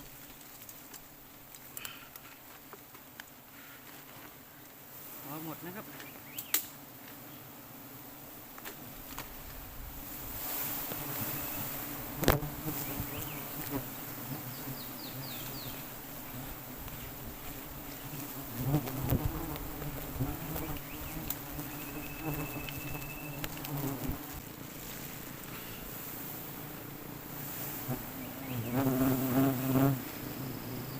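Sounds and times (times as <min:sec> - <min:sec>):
bees buzzing: 0:05.0 - 0:30.9.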